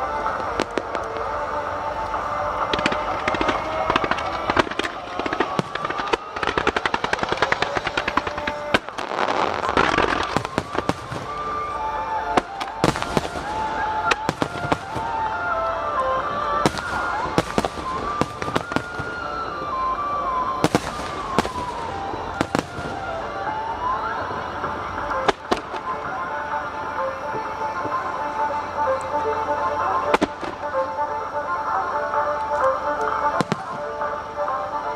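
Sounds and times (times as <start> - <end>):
fireworks bursting: 0.0 - 34.9
fireworks crackling: 0.0 - 34.9.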